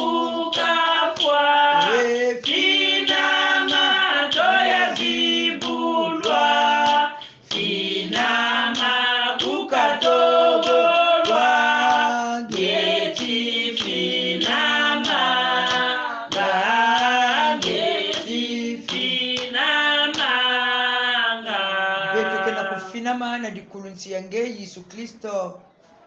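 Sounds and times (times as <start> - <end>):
group singing a hymn unaccompanied: 0.0 - 23.0.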